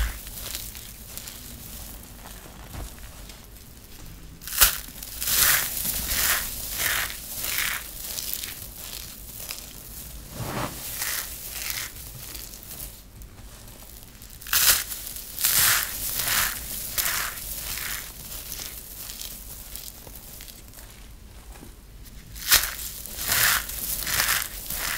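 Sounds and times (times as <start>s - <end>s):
dry soap crunching by hand: 0.0s - 10.0s, 10.9s - 24.9s.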